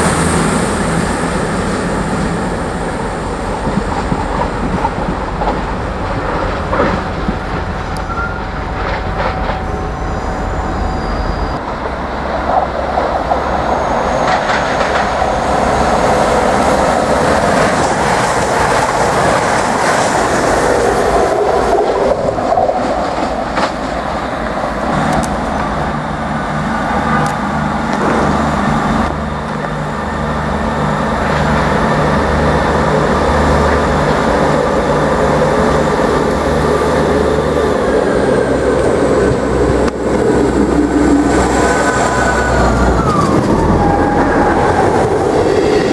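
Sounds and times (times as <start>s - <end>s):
diesel train engine thrum: 0.0s - 45.9s
diesel train passing: 0.0s - 45.9s.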